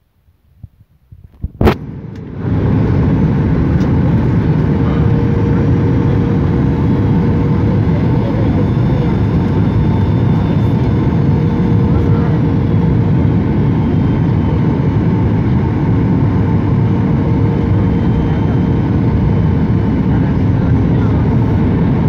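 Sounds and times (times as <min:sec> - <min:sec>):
jet engine and airflow noise: 0:01.2 - 0:22.0.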